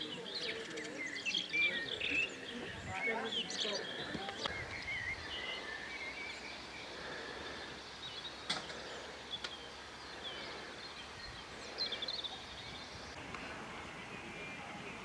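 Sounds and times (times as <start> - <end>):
bird chirps: 0.0 - 13.2
outdoor background hiss: 0.0 - 15.0.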